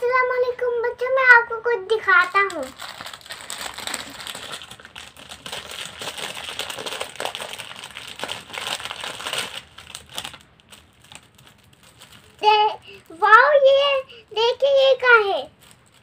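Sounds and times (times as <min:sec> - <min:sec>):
plastic wrapping crinkling: 0:02.2 - 0:13.8, 0:14.4 - 0:16.0.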